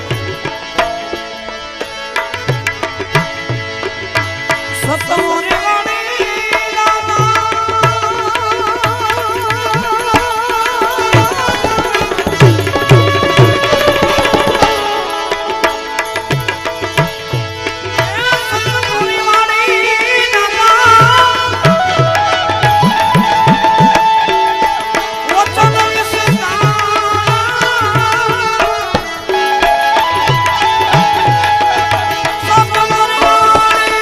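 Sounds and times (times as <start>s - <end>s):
harmonium: 0.0s - 34.0s.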